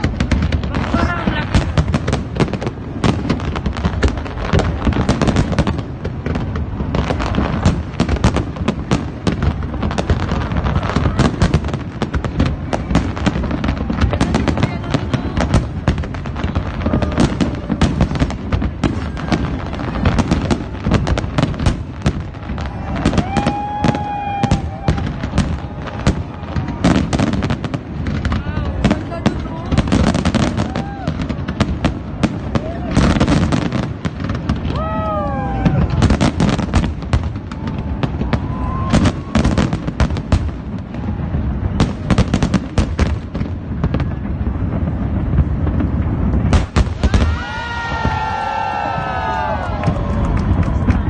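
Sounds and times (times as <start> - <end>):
fireworks bangs and crackling: 0.0 - 51.0.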